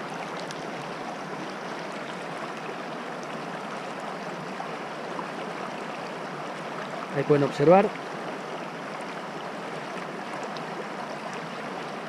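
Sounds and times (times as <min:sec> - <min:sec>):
creek running over stones: 0:00.0 - 0:12.0.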